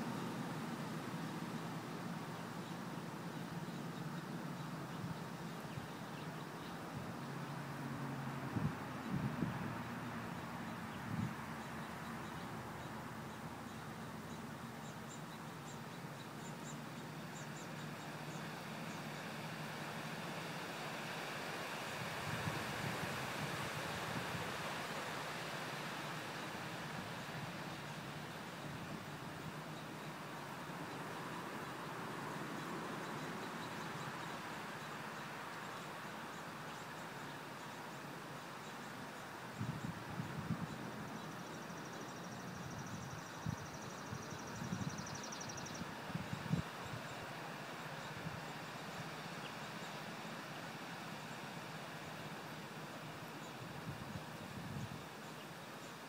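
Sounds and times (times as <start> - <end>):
small birds chirping: 0.0 - 7.7, 8.5 - 56.0
outdoor background hiss: 0.0 - 56.0.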